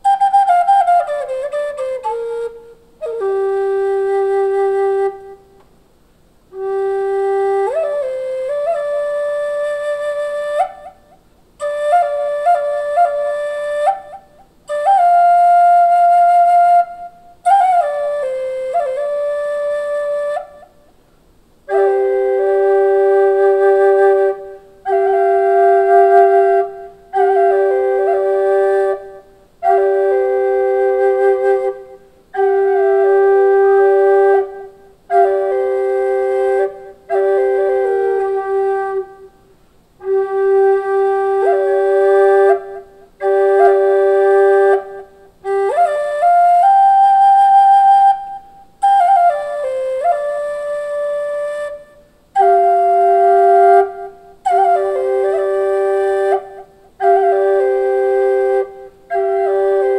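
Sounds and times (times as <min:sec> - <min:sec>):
flute melody: 0:00.0 - 0:05.6, 0:06.5 - 0:21.0, 0:21.6 - 0:59.9.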